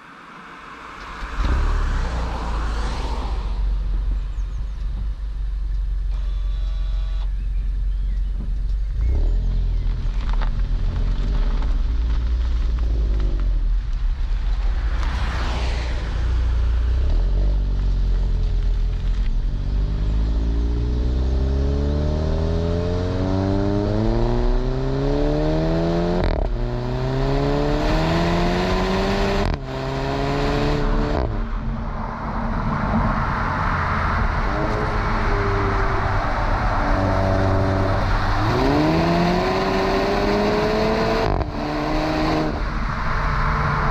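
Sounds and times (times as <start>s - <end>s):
car engine accelerating: 0.7s - 43.9s
exhaust cracks at upshifts: 7.2s - 43.9s.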